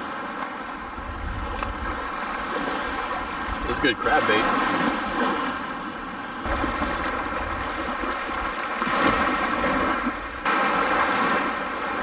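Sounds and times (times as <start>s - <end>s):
small waves breaking on beach: 0.0s - 12.0s
wind rumbling on microphone: 0.7s - 12.0s.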